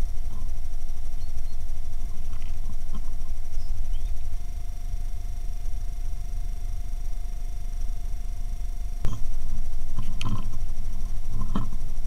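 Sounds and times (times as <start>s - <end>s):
high electronic whine: 0.0s - 12.0s.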